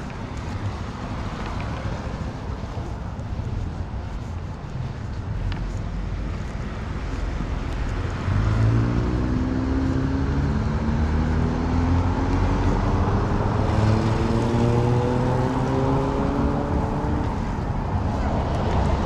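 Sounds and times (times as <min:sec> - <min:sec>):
street traffic: 0:00.0 - 0:19.0
vehicle engine accelerating: 0:00.0 - 0:19.0.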